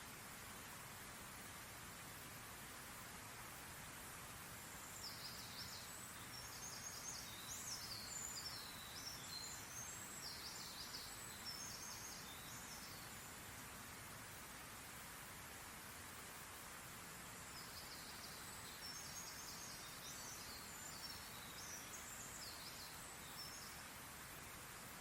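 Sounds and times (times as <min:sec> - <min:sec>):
steady background hiss: 0:00.0 - 0:25.0
songbird chirping: 0:00.1 - 0:25.0.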